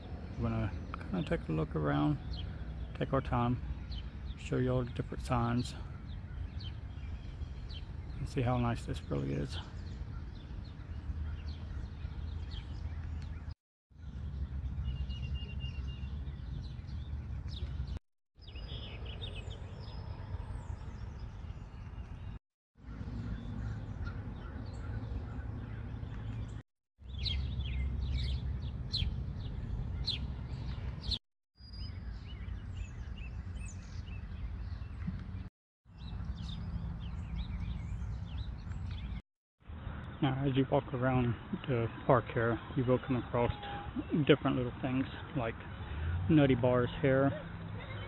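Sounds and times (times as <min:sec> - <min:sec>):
birds chirping and calling: 0:00.0 - 0:39.2, 0:39.9 - 0:48.0.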